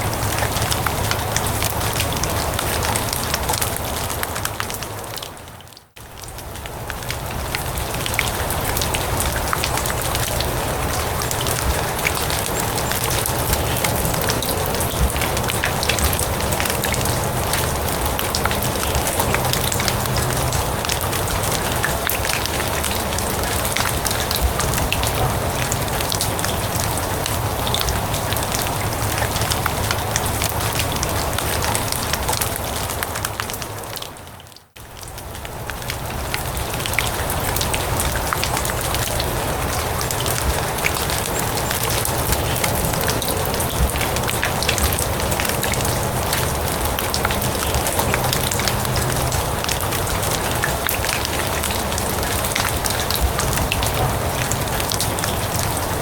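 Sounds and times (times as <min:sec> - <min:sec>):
rain on grass and leaves: 0:00.0 - 0:56.0.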